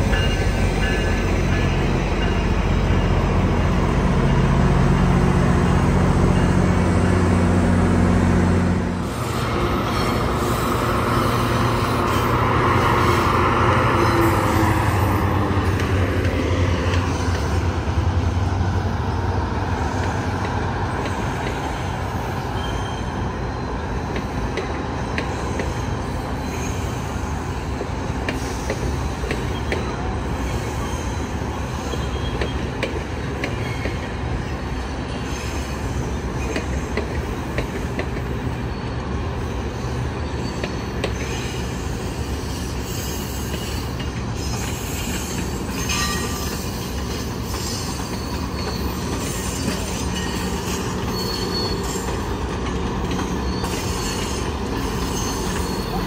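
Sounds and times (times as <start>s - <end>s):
train wheels rolling by: 0.0s - 56.0s.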